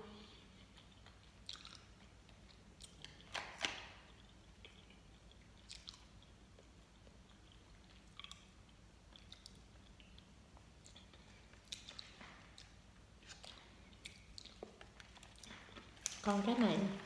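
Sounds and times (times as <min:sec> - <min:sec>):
chewing gummy candy: 0:00.3 - 0:17.0
mouth clicks and smacks: 0:00.6 - 0:16.3.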